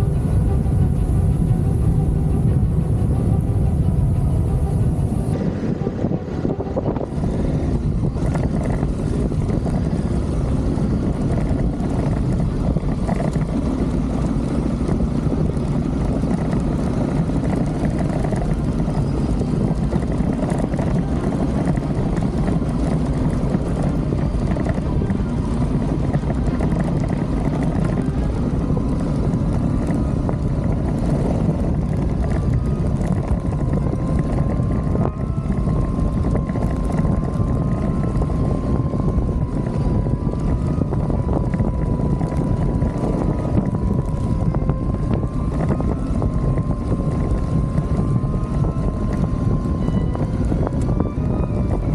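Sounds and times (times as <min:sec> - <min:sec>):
motorcycle engine rumble: 0:00.0 - 0:51.9.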